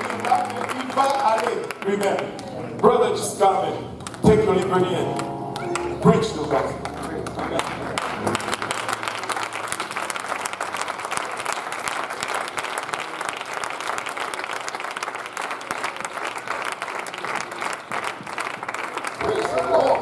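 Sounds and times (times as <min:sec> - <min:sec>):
congregation applauding: 0:00.0 - 0:20.0.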